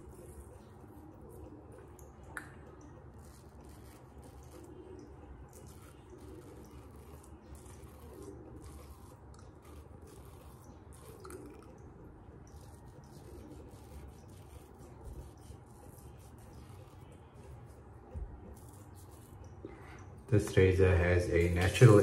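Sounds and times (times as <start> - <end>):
razor scraping stubble: 2.6 - 22.0.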